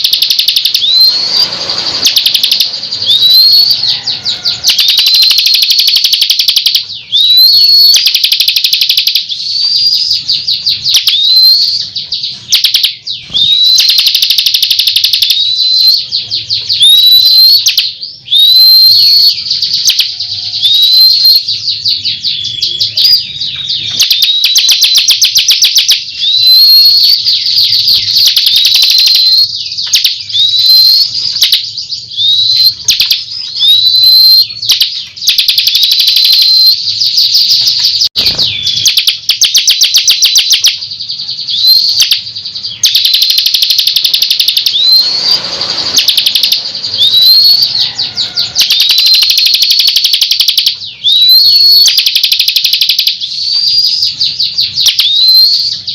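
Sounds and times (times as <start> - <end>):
bird singing buzzy trills: 0.0 - 55.9
upward-slurred bird whistle: 0.0 - 55.9.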